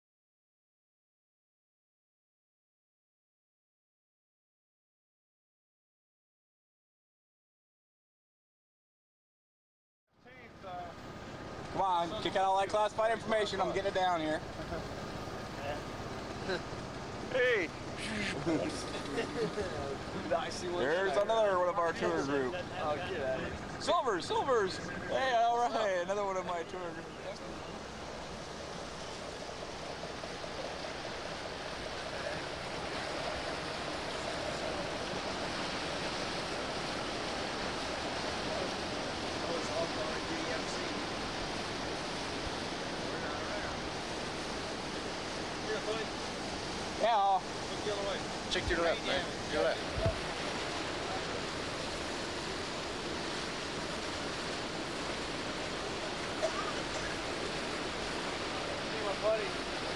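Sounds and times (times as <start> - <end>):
wind: 10.1 - 59.9
sea: 10.2 - 59.9
water rushing: 10.3 - 59.9.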